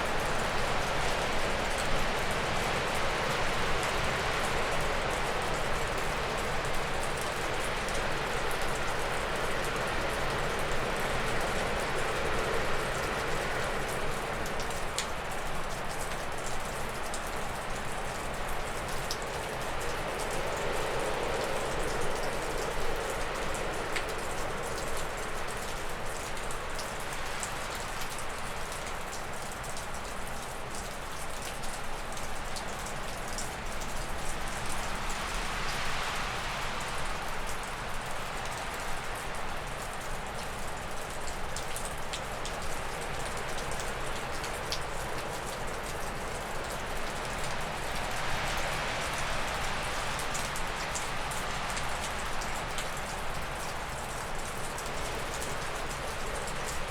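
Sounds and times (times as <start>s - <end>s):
water dripping off roof: 0.0s - 56.9s.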